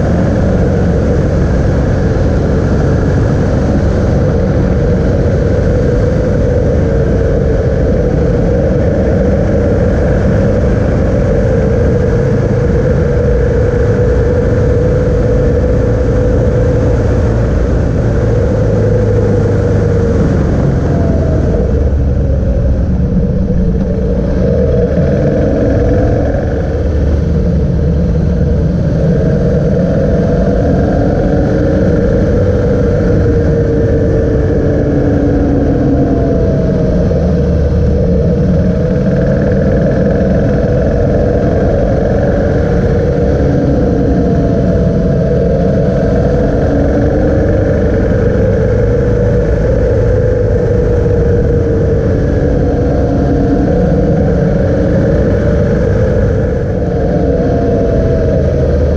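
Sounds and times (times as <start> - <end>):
motorcycle engine running: 0.0 - 58.9
wind rush on microphone: 0.0 - 58.9.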